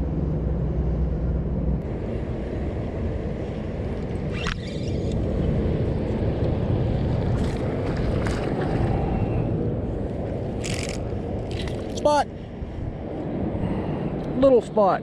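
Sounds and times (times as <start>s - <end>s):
boat low rumbling: 0.0s - 14.4s.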